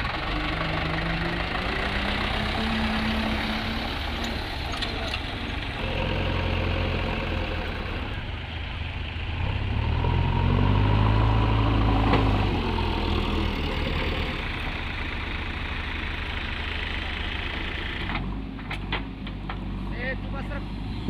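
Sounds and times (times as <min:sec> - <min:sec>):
tractor diesel engine revving: 0:00.0 - 0:21.0.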